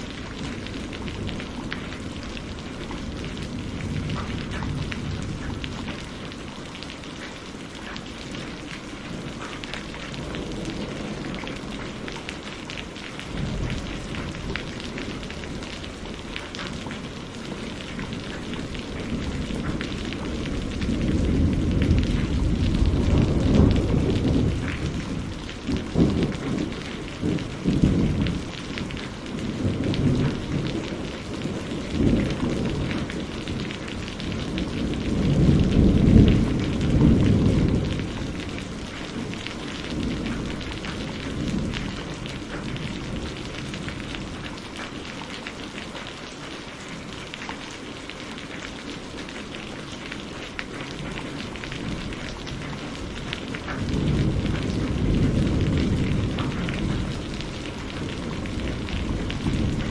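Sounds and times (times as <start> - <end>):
rolling thunder: 0.0 - 6.4, 8.4 - 44.5, 51.8 - 59.9
steady rain: 0.0 - 59.9.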